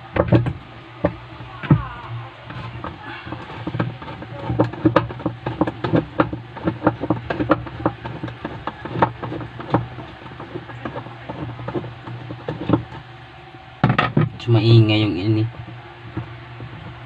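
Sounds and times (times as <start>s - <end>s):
rattling knocks: 0.0s - 17.0s
washing machine humming: 0.0s - 17.0s.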